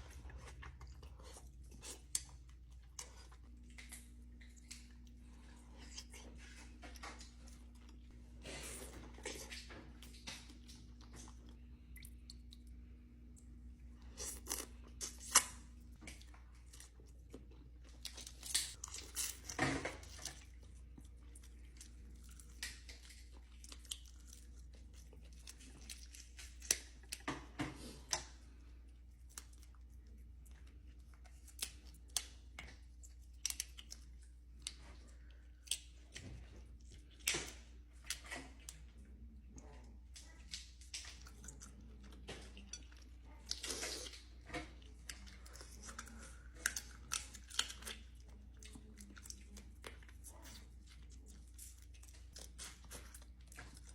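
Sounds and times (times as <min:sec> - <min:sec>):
person crunching and chewing food: 0:00.0 - 0:53.9.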